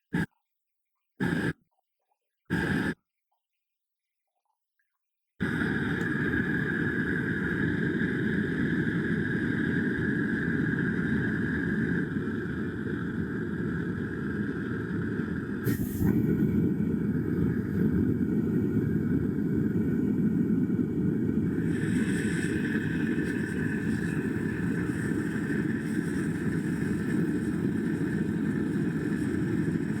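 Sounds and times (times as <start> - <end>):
furnace burner firing: 5.4 - 30.0.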